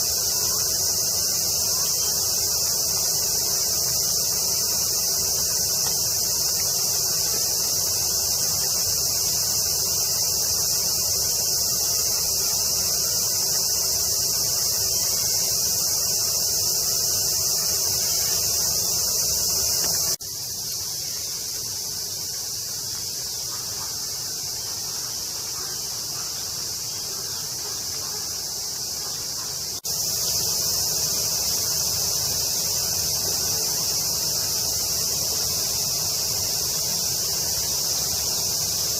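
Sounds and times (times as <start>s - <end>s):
cicada chorus: 0.0s - 38.9s.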